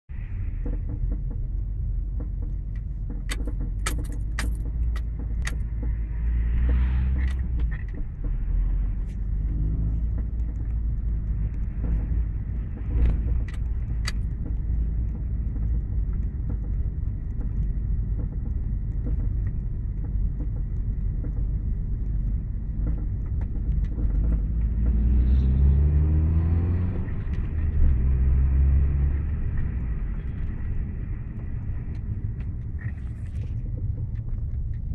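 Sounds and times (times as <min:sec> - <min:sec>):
car engine revving: 0:03.3 - 0:31.4.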